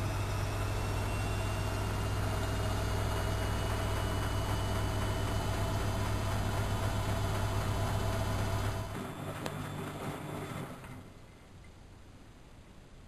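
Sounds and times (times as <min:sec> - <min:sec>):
washing machine humming: 0:00.0 - 0:11.2
faint high whine: 0:00.0 - 0:13.0.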